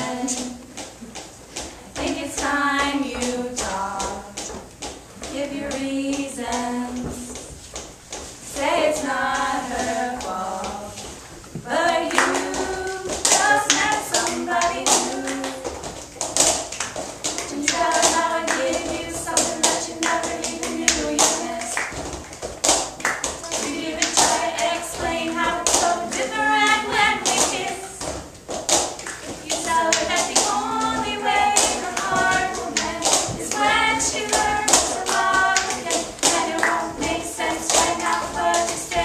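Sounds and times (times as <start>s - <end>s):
girls singing in harmony: 0.0s - 1.1s, 1.7s - 7.6s, 8.4s - 16.0s, 17.2s - 22.2s, 23.3s - 28.2s, 29.2s - 39.0s.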